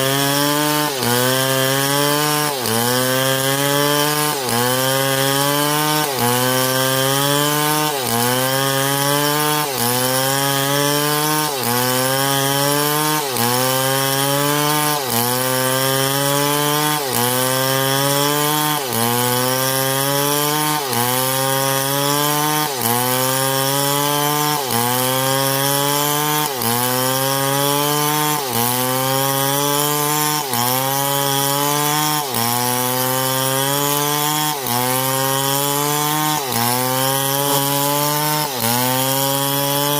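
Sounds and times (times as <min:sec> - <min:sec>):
chainsaw cutting through wood: 0:00.0 - 0:39.9.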